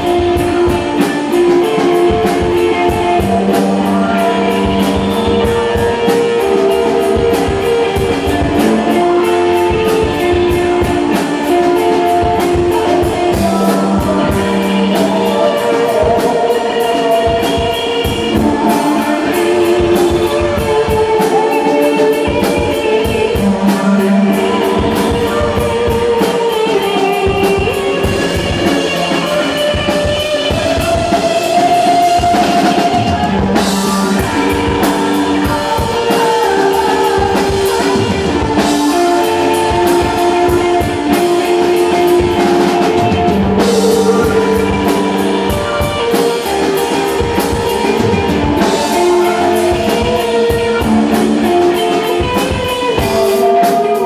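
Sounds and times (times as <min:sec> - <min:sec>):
drum kit beat: 0:00.0 - 0:54.0
electric guitar: 0:00.0 - 0:54.0
person singing: 0:00.0 - 0:54.0.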